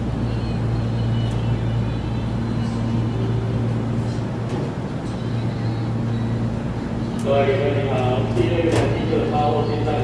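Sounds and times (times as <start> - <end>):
electric train humming: 0.0 - 10.0.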